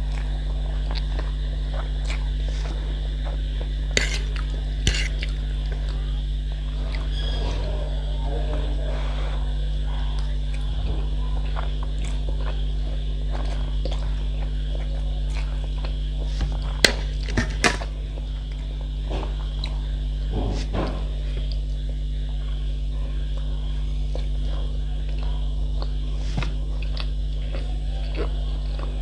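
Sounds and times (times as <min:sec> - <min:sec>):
soft chewing: 0:00.0 - 0:29.0
steady low hum: 0:00.0 - 0:29.0.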